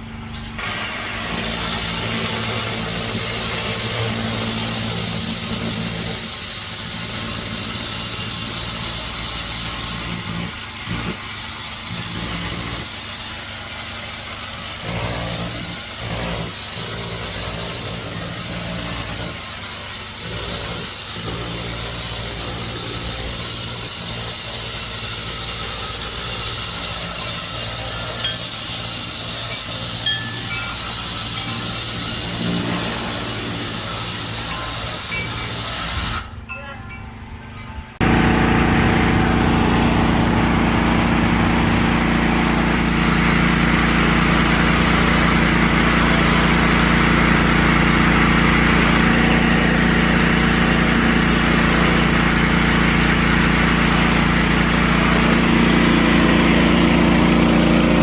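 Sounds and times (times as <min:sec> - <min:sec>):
hissing spray: 0:00.0 - 0:36.4, 0:37.0 - 0:58.0
cleaning machine engine running: 0:00.0 - 0:58.0.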